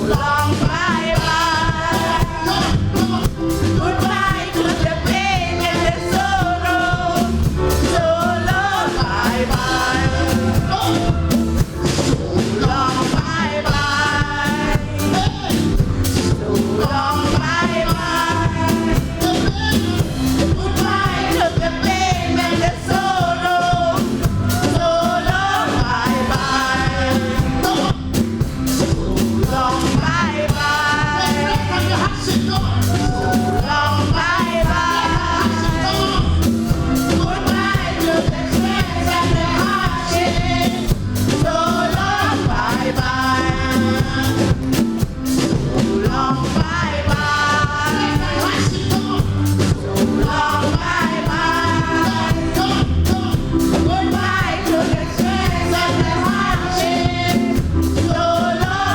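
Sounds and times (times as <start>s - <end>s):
band with heavy bass: 0.0s - 58.9s
gospel choir singing: 0.0s - 58.9s.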